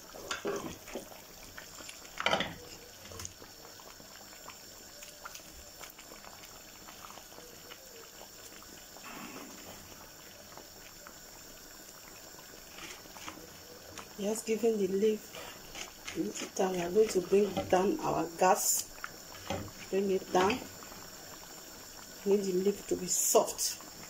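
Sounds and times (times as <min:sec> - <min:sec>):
soup bubbling in a pot: 0:00.0 - 0:24.0.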